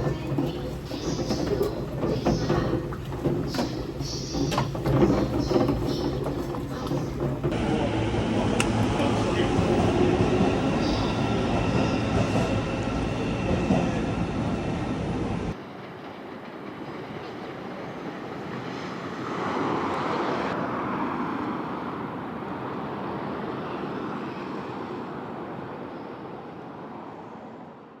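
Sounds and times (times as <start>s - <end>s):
train running past: 0.0s - 28.0s.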